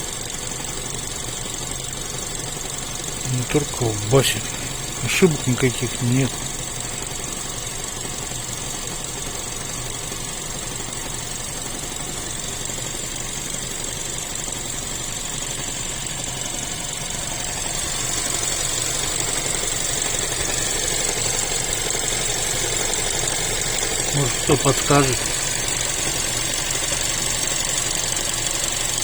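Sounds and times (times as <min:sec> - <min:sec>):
engine knocking: 0:00.0 - 0:29.0
car engine running: 0:00.8 - 0:13.7, 0:14.8 - 0:29.0.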